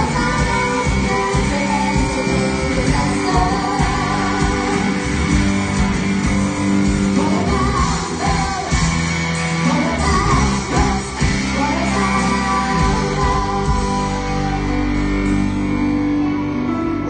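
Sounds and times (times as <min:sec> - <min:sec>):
person singing: 0:00.0 - 0:05.4, 0:07.1 - 0:17.0
guitar: 0:00.0 - 0:17.0
live rock band playing: 0:00.0 - 0:17.0.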